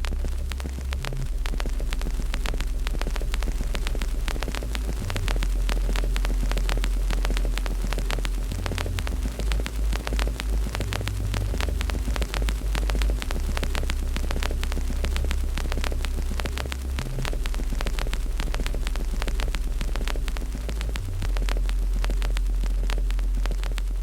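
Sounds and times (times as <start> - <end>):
loud low hum: 0.0 - 24.0
wood fire crackling: 0.0 - 24.0.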